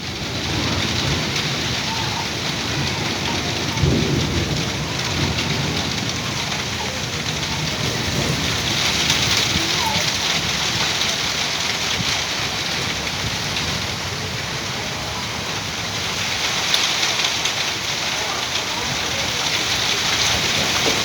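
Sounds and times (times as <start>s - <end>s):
heavy rain falling: 0.0s - 21.0s
raindrop ticks: 0.0s - 21.0s.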